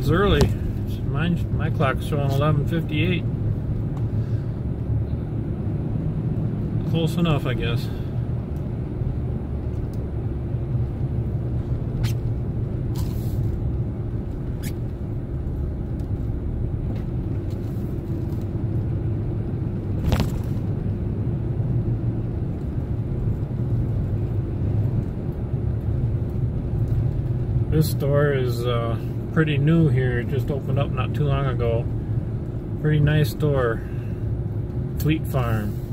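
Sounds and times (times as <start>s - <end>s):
truck engine and tyre noise: 0.0s - 35.9s.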